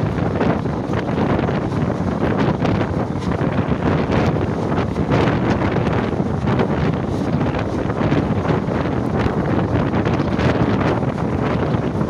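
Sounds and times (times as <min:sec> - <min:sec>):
train rumbling on rails: 0:00.0 - 0:12.0
wind buffeting microphone: 0:00.0 - 0:12.0.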